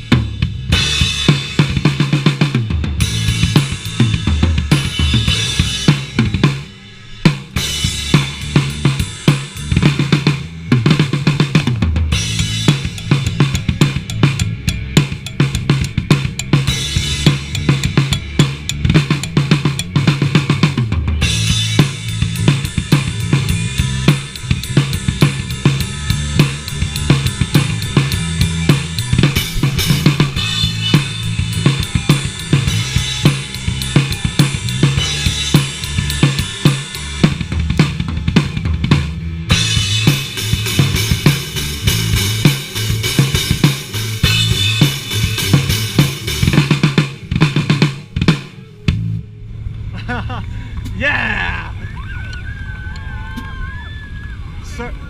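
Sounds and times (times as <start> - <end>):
live rock band playing: 0.0 - 49.2
drum kit: 0.0 - 49.3
bass line: 0.0 - 53.3.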